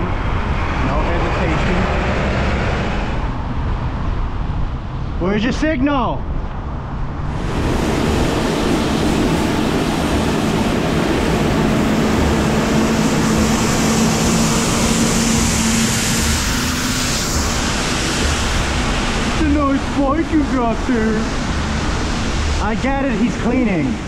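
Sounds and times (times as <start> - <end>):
city traffic: 0.0 - 24.0
wind and road noise: 0.0 - 24.0.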